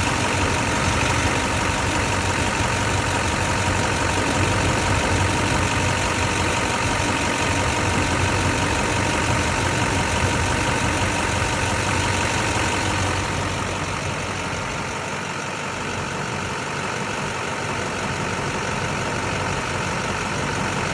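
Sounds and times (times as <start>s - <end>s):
pickup engine idling: 0.0s - 20.9s.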